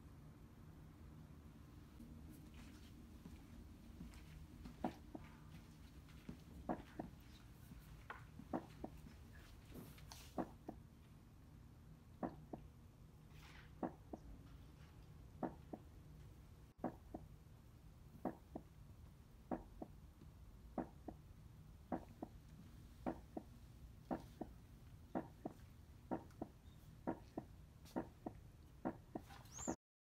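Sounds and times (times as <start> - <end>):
low steady hum: 0.0 - 29.8.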